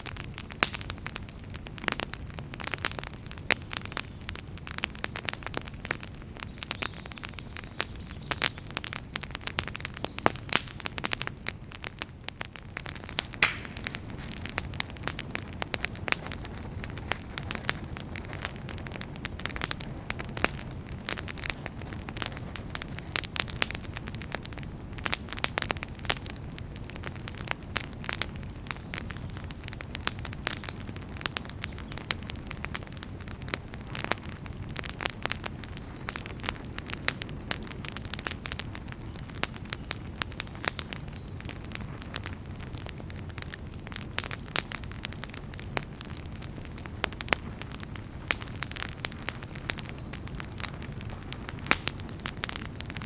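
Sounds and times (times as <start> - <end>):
low rumble of flame: 0.0 - 53.0
wood fire crackling and popping: 0.0 - 53.0.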